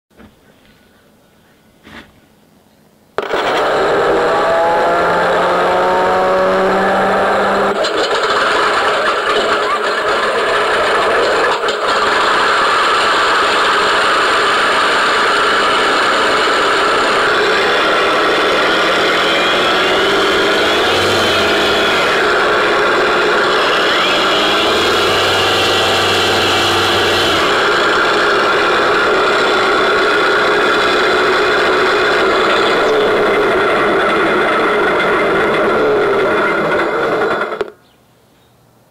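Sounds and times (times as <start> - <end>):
propeller whir: 3.2 - 37.8
simulated piston aero-engine: 3.2 - 37.8.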